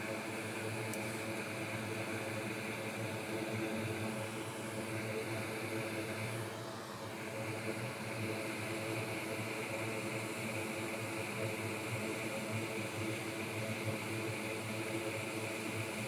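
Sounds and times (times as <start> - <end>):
fans whirring: 0.0 - 16.0.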